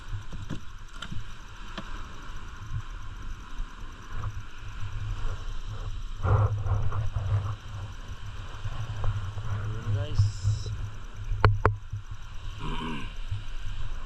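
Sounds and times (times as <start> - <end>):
wind gusting on microphone: 0.0 - 14.0.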